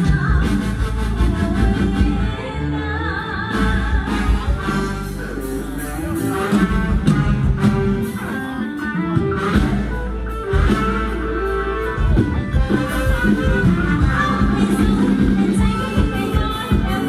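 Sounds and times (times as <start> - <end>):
guitar: 0.0 - 17.0
live band dance music: 0.0 - 17.0.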